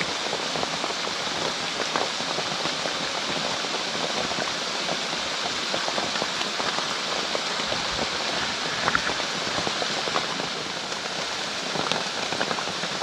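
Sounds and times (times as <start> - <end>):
heavy rain with drops ticking: 0.0 - 13.0.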